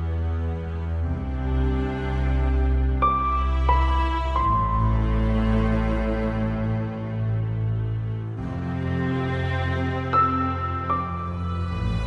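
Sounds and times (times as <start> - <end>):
slow music with held chords: 0.0 - 12.0.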